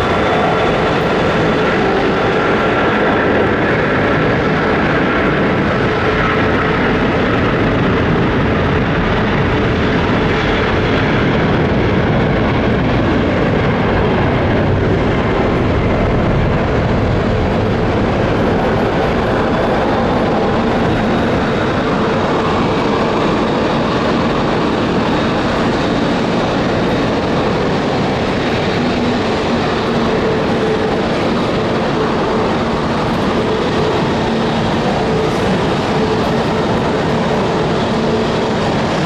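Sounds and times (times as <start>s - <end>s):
jet engines taking off: 0.0s - 39.0s.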